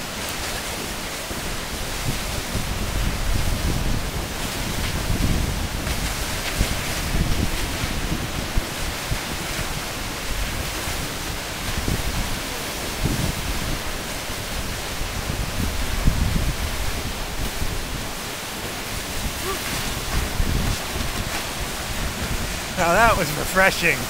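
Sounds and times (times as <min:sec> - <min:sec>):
waterfall pouring: 0:00.0 - 0:24.0
wind buffeting microphone: 0:01.3 - 0:22.8.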